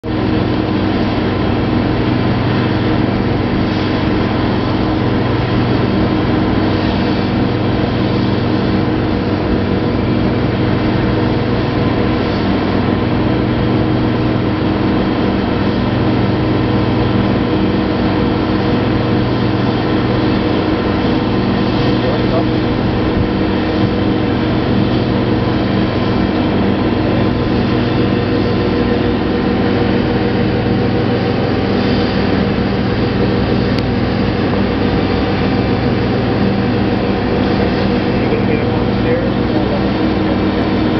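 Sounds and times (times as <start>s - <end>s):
aircraft engines droning: 0.0s - 40.9s
constant low hums: 0.0s - 40.9s.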